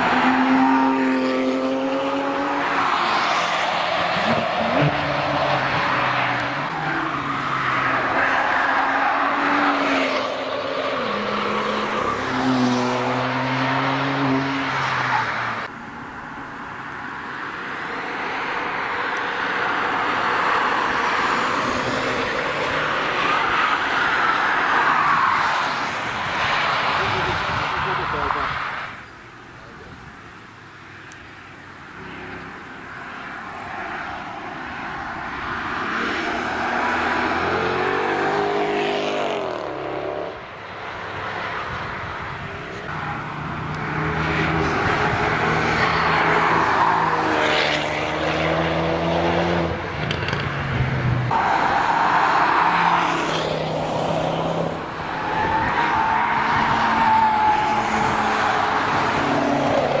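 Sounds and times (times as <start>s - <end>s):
cars driving past at speed: 0.0s - 29.1s, 31.8s - 60.0s
tyre and road noise: 0.0s - 60.0s.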